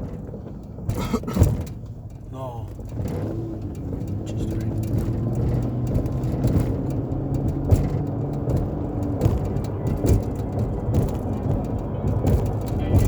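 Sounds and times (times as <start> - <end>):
light knocks and rattles: 0.0 - 13.0
vehicle engine and road rumble: 0.0 - 13.0.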